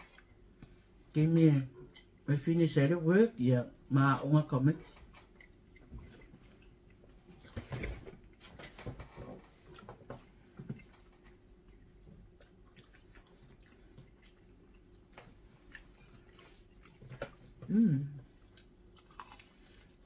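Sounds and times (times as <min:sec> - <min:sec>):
soft chewing: 0:00.0 - 0:02.8, 0:04.5 - 0:20.0.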